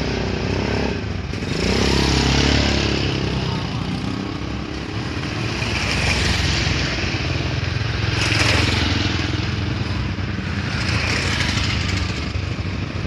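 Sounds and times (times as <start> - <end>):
traffic engines running: 0.0 - 13.0
vehicles passing close: 0.0 - 13.0.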